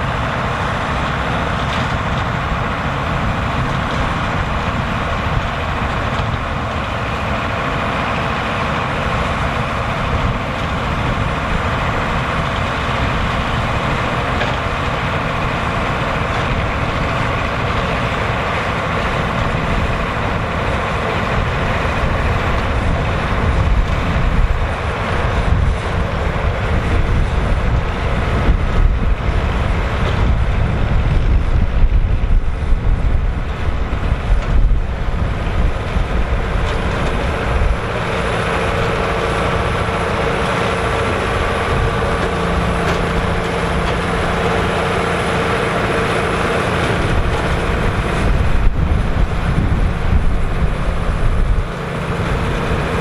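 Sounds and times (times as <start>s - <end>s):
tractor diesel engine rumbling: 0.0s - 53.0s.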